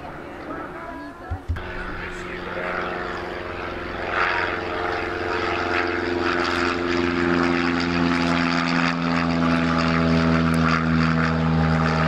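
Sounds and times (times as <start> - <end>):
propeller aircraft flying overhead: 0.0 - 12.0.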